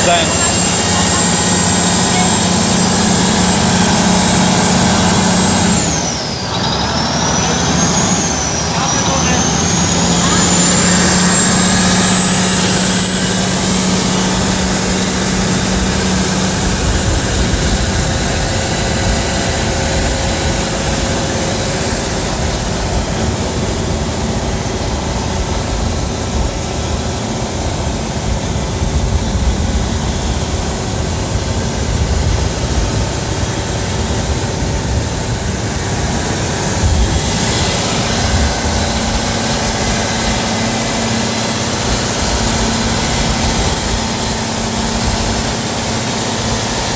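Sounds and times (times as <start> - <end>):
boat engine droning: 0.0 - 46.9
thin high whine: 0.0 - 46.9.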